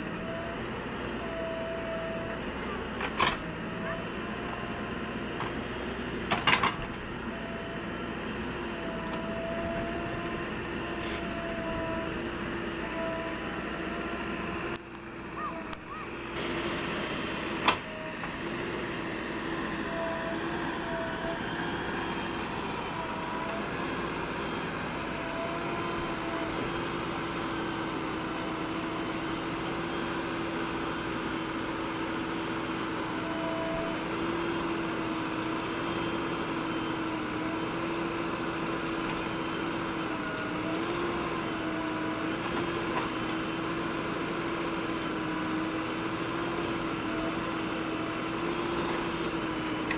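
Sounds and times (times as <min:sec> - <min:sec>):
backhoe engine running: 0:00.0 - 0:49.9.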